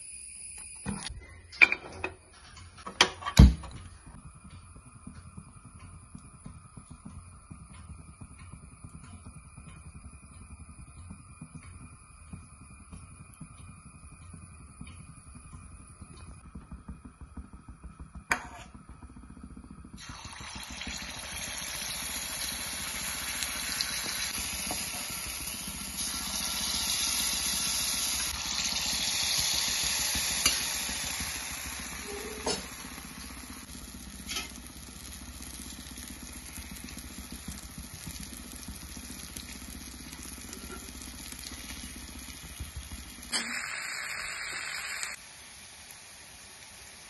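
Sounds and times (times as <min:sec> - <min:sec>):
batter sizzling in hot oil: 0:04.0 - 0:47.0.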